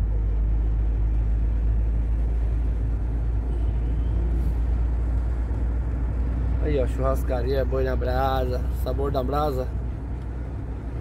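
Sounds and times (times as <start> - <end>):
low road rumble: 0.0 - 11.0
truck engine drone: 0.0 - 11.0.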